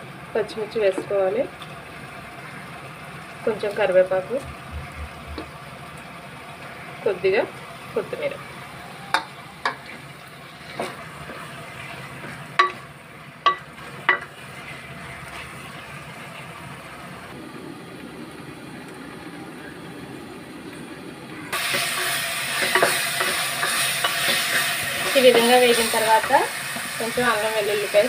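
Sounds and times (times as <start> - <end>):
oil sizzling: 0.0 - 19.7, 20.3 - 28.0.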